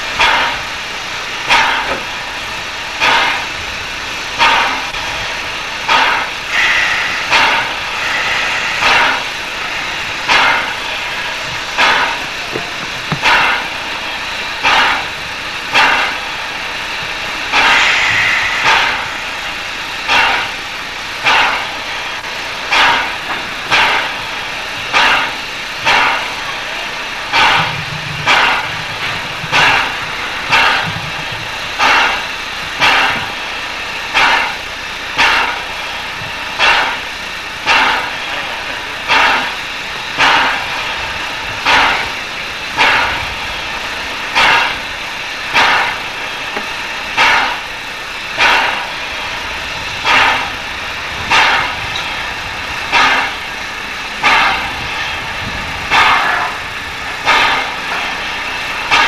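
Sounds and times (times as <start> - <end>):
constant steam hiss: 0.0 - 59.0
sharp puffs of steam: 0.0 - 59.0
locomotive air pump panting: 0.2 - 0.7, 1.3 - 2.2, 2.9 - 3.8, 4.4 - 59.0.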